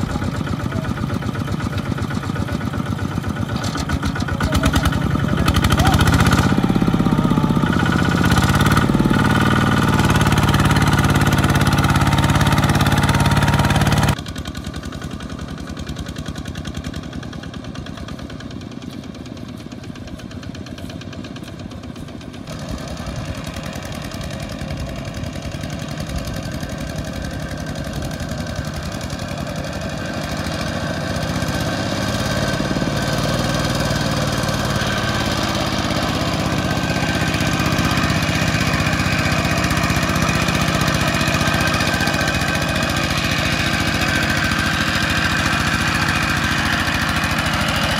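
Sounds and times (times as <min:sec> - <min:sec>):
diesel tractor engines under load: 0:00.0 - 0:47.9.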